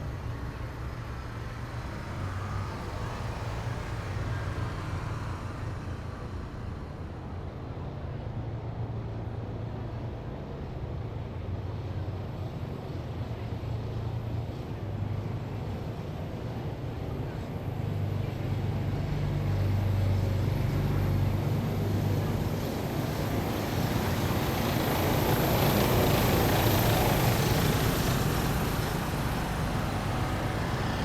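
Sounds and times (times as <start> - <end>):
heavy vehicle engines droning: 0.0 - 31.0
road and tyre noise: 0.0 - 31.0.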